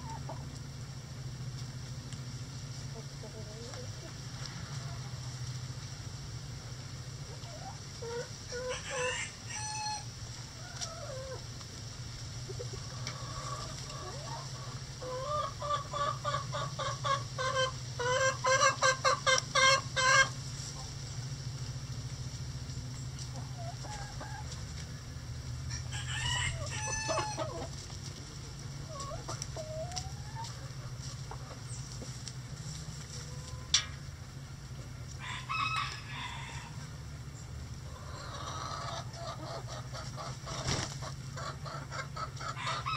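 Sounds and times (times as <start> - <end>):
chickens clucking and calling: 0.0 - 42.9
low steady hum: 0.0 - 42.9.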